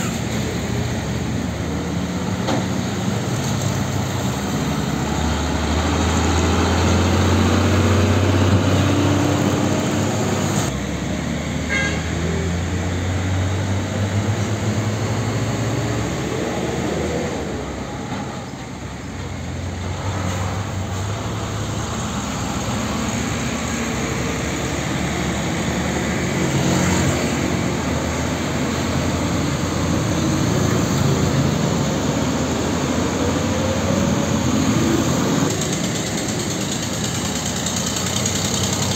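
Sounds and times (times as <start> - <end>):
diesel truck engines driving past: 0.0 - 38.9
road traffic: 0.0 - 38.9.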